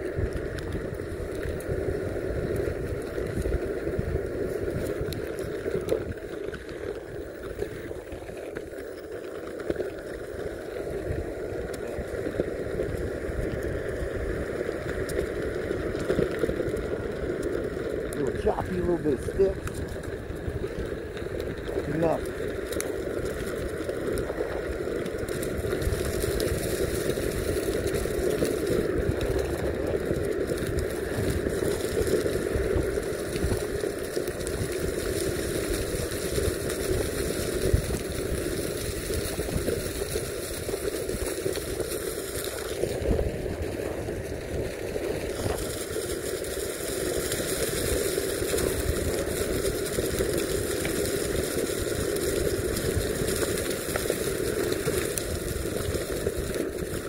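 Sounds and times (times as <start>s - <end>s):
skateboard wheels rolling on dirt: 0.0s - 57.0s.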